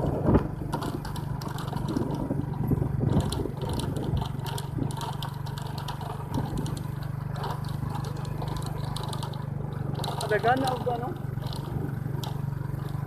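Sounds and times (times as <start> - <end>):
low motor hum: 0.0 - 13.0
rattling and clicking: 0.0 - 13.0.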